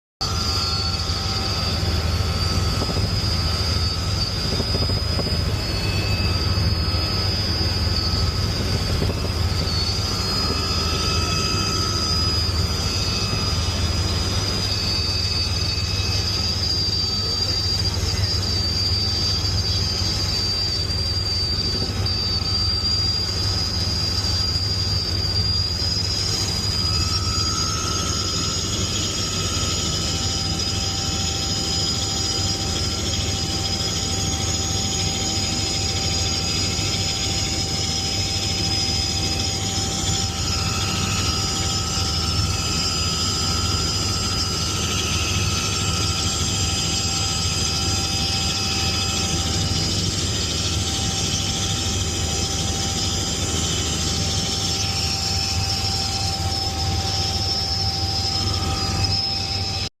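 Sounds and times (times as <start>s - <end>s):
helicopter drone: 0.2s - 59.9s
high steady whines: 0.2s - 60.0s.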